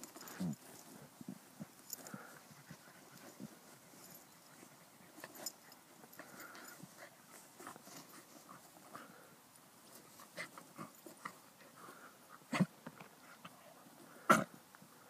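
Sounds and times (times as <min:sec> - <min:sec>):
dogs scuffling on grass: 0:00.0 - 0:12.1.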